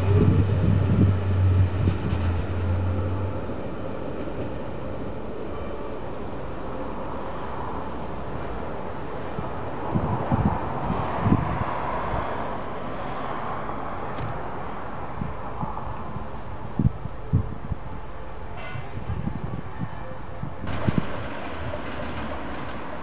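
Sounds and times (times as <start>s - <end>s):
diesel railcar rumbling: 0.0s - 23.0s.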